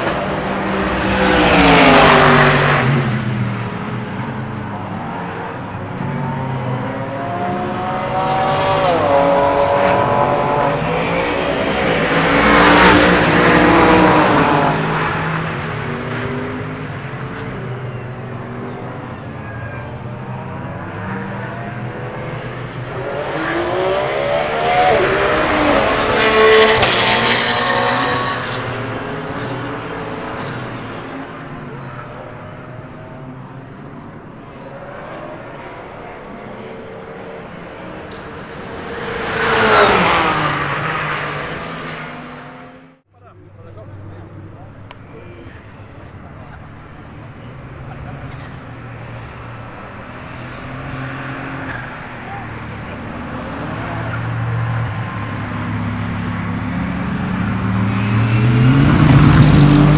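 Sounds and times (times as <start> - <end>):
race cars passing at speed: 0.0 - 59.9.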